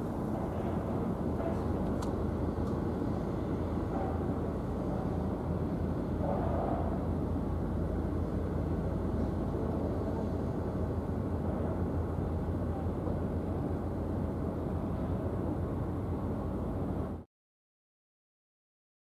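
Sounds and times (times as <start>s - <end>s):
ferry engine rumble: 0.0s - 17.2s.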